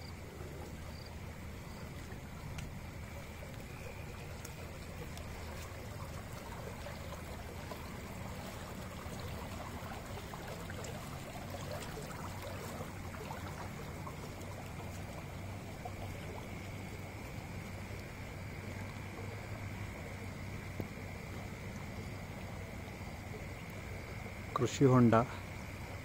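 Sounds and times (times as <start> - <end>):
constant low hum: 0.0 - 26.0
water rushing: 0.0 - 26.0.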